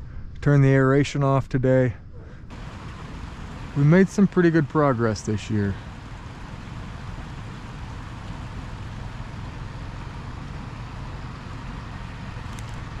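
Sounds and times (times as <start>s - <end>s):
steady low rumble: 1.6s - 13.0s
faint hiss: 1.9s - 13.0s.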